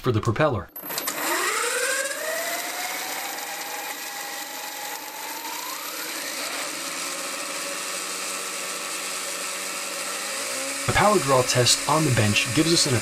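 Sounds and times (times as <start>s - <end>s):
small electric motor whine: 0.8s - 13.0s.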